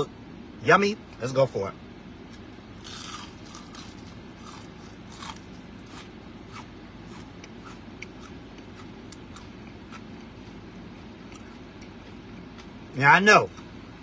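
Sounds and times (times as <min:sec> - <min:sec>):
steady low hum: 0:00.0 - 0:14.0
crunching onion ring: 0:02.3 - 0:14.0.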